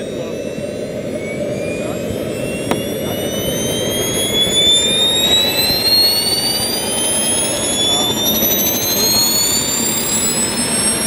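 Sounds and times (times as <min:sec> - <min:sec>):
jet turbines whining: 0:00.0 - 0:11.0.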